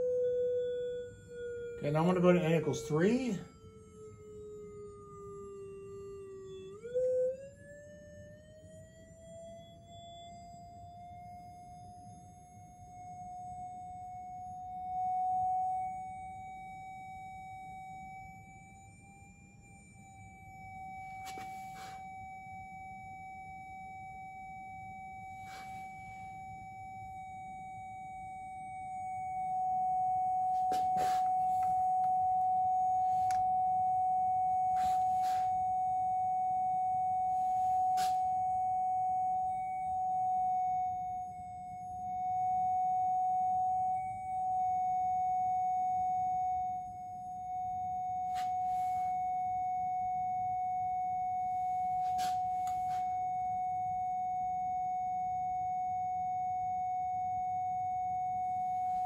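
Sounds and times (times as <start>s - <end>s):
steady sine tone: 0.0s - 59.0s.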